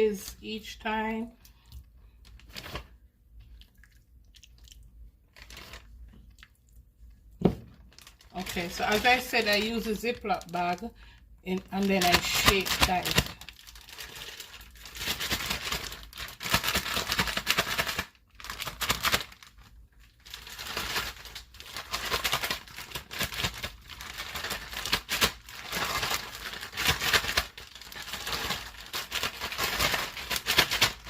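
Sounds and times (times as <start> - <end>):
plastic bag crinkling and rustling: 2.2 - 3.6, 5.3 - 31.0.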